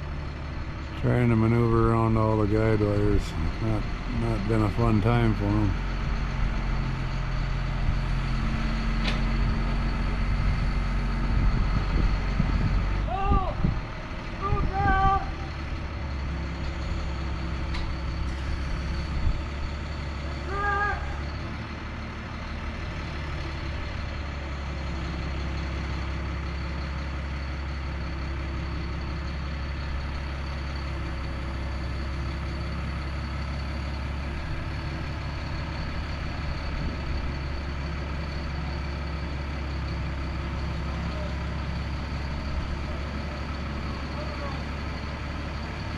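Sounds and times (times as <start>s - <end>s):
heavy equipment engine humming: 0.0s - 45.9s.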